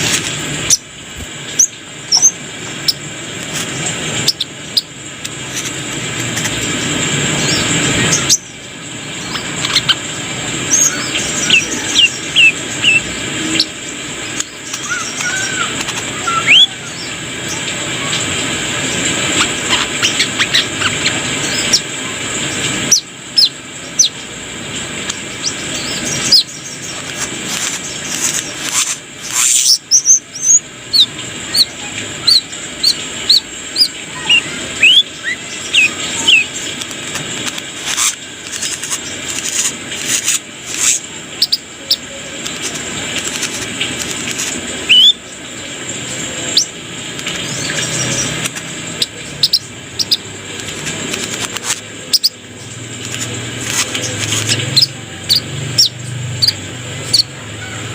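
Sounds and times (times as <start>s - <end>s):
bird chirping and twittering: 0.0s - 50.4s, 51.0s - 57.9s
steady hiss: 0.0s - 57.9s.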